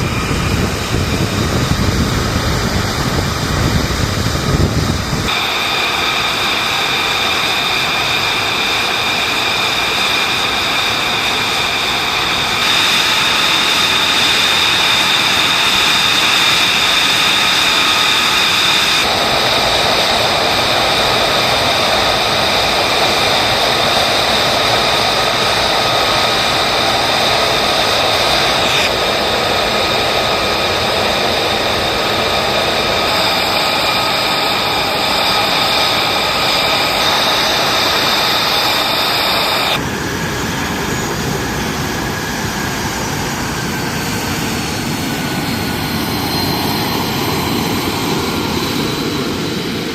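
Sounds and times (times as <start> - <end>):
jet engines roaring with whine: 0.0 - 49.9.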